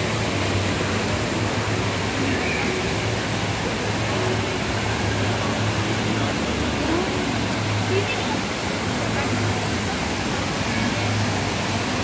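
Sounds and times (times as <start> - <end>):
indoor waterfall roaring: 0.0 - 12.0.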